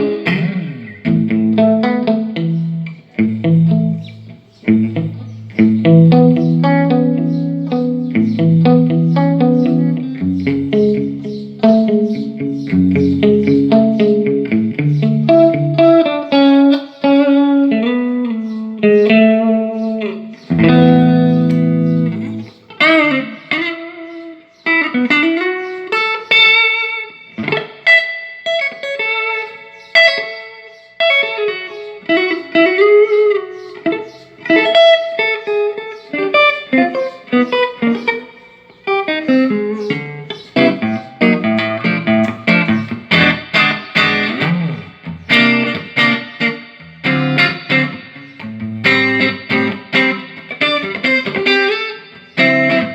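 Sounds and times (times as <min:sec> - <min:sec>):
electric guitar playing: 0:00.0 - 0:52.9.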